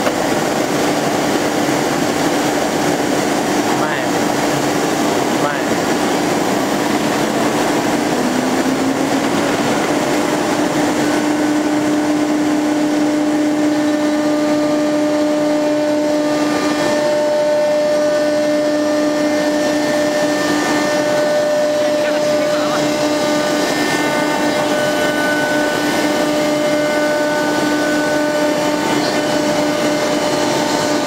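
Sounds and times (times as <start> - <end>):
router spindle whine: 0.0 - 31.0.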